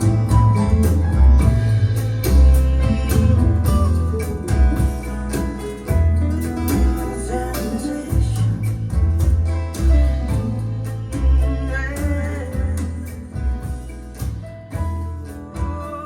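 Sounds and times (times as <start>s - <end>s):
heavy pulsing bass line: 0.0s - 16.0s
plucked guitar music: 0.0s - 16.0s.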